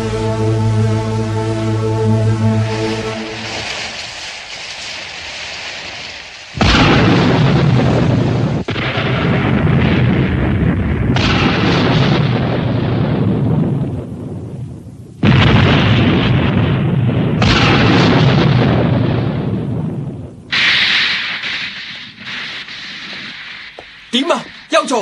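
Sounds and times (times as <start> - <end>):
loud explosion rumble: 2.6 - 24.8.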